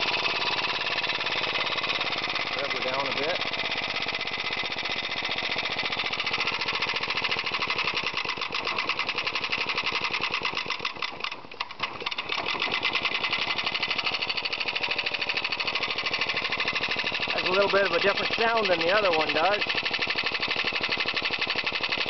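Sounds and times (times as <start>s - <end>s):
compressed-air engine chattering: 0.0s - 22.0s
gear backlash rattle: 0.0s - 22.0s.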